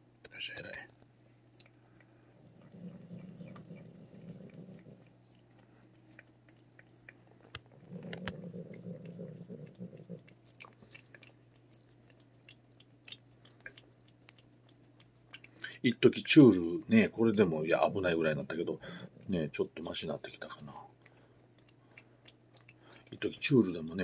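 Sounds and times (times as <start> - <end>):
cat lapping and smacking: 0.0 - 24.0.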